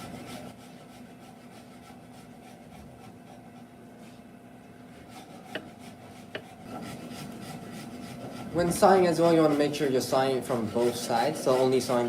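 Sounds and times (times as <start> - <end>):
handsaw cutting wood: 0.0 - 3.7, 4.9 - 12.0.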